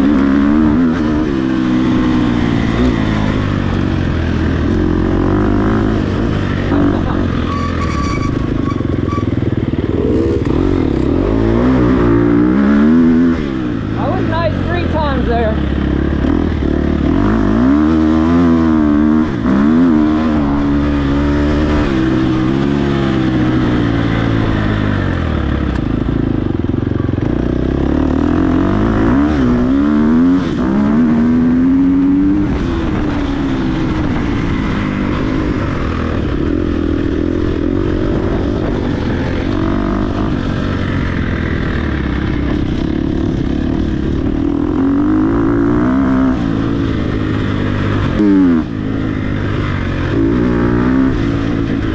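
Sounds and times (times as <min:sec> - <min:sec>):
dirt bike engine revving: 0:00.0 - 0:26.5, 0:27.2 - 0:51.9.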